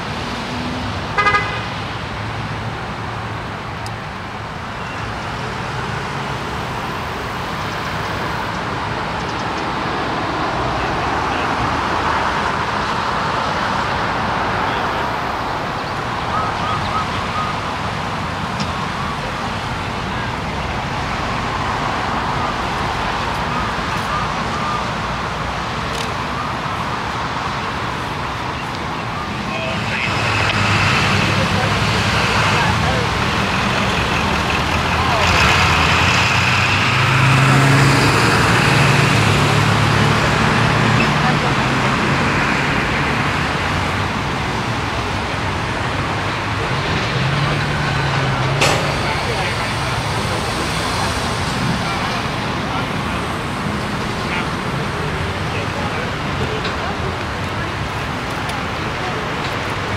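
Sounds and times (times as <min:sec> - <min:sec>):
road noise: 0:00.0 - 0:59.9
traffic rumble: 0:00.0 - 0:59.9.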